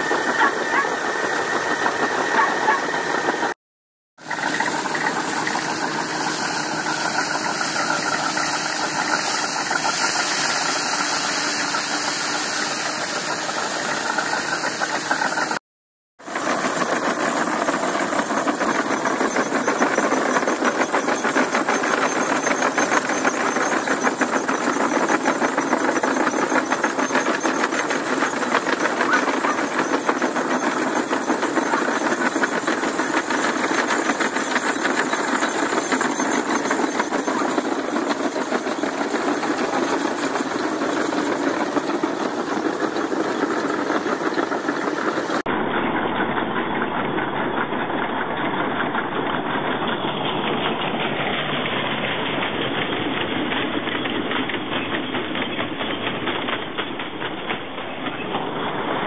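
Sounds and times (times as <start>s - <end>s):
threshing machine clattering: 4.2s - 15.6s, 16.3s - 59.0s.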